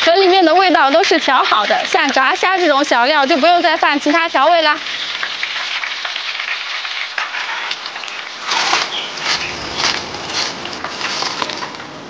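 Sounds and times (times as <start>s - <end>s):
shrimp sizzling in hot oil: 0.0s - 11.8s.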